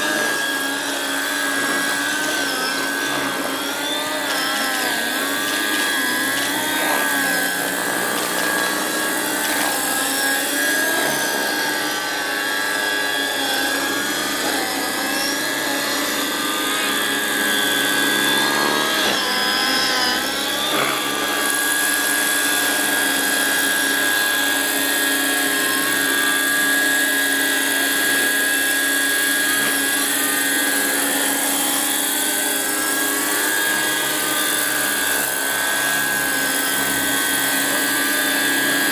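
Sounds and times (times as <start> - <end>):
helicopter rotor noise: 0.0 - 38.9
high motor whine: 0.0 - 38.9.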